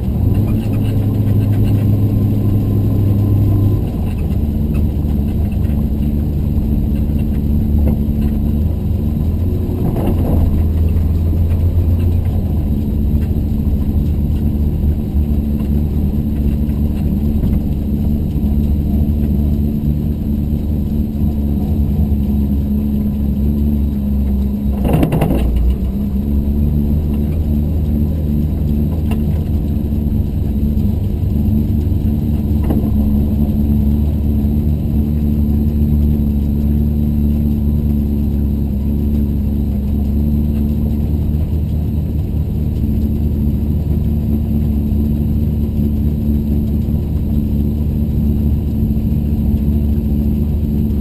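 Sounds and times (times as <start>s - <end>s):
car engine racing from inside: 0.0s - 51.0s.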